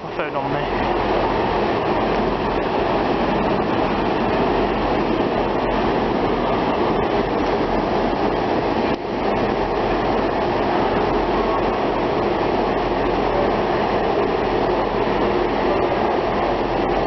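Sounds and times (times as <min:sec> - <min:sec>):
diesel train running: 0:00.0 - 0:17.0.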